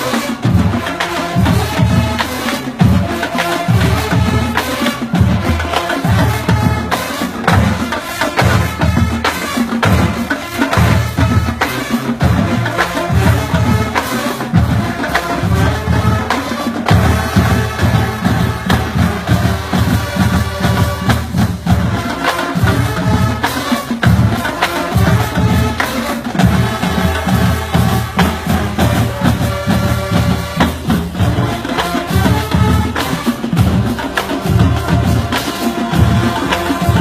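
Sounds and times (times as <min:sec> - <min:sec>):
marching band playing funk: 0:00.0 - 0:37.0.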